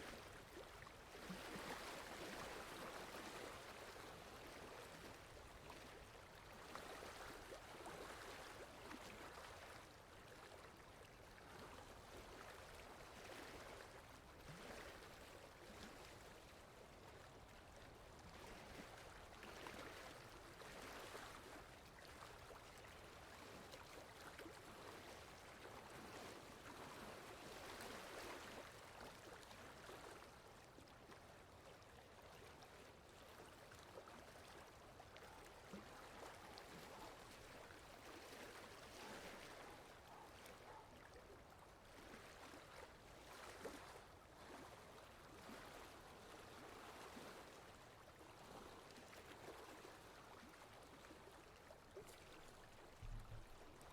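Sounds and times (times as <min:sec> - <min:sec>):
faint water lapping and gurgling: 0:00.0 - 0:53.9.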